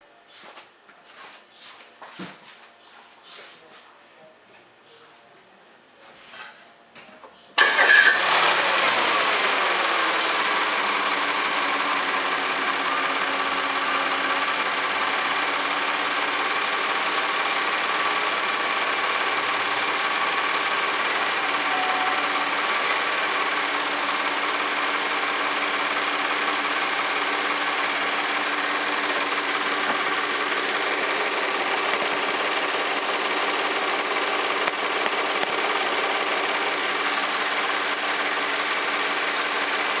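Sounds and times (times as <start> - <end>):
car engine starting and idling: 7.6 - 40.0
engine valve ticking: 7.6 - 40.0.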